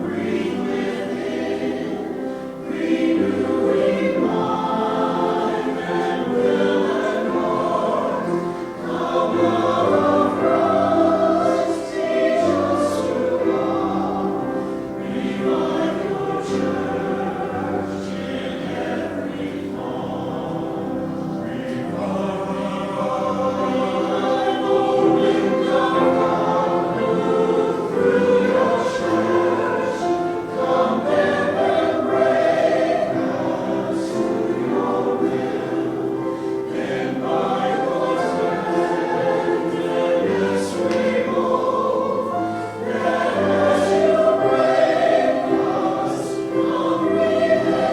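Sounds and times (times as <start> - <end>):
choir singing: 0.0 - 47.9.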